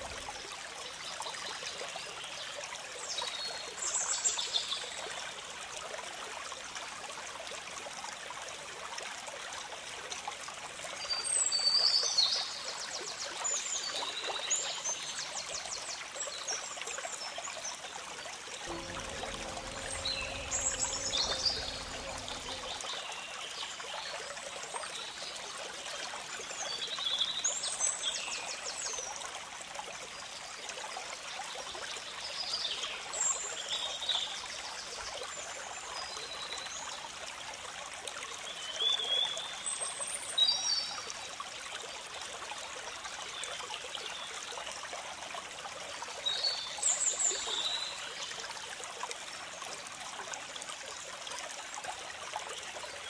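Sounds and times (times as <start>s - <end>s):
flowing water: 0.0s - 53.0s.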